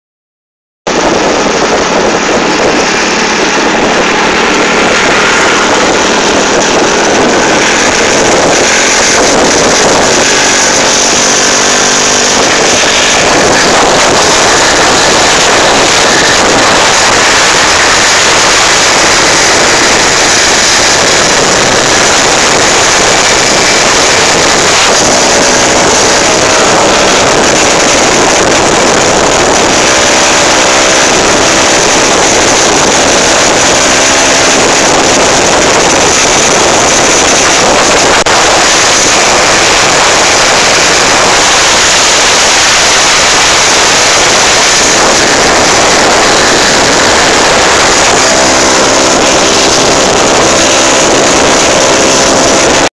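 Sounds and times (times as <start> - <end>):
motorcycle engine running hard: 0.8 - 52.9
wind rushing over microphone: 0.8 - 52.9.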